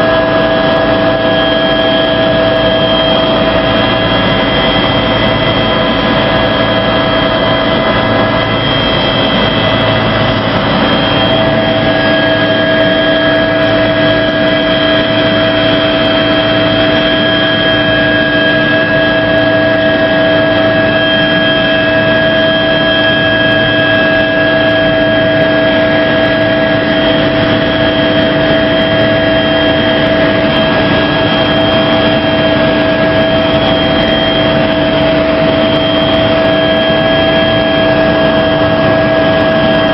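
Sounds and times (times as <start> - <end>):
helicopter engine and rotor drone: 0.0 - 39.9
high whining tones: 0.0 - 39.9.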